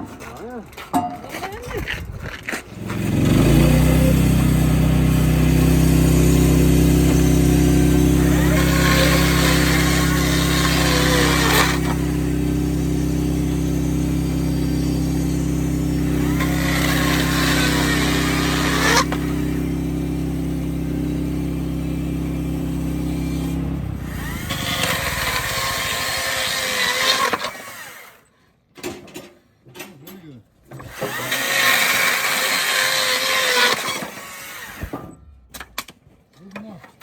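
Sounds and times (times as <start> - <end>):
sawmill engine running: 2.7 - 28.2, 30.8 - 35.1.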